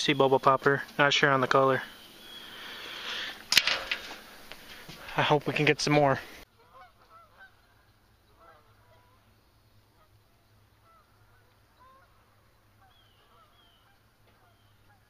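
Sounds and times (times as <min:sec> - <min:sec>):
distant bird calls: 0:00.0 - 0:15.0.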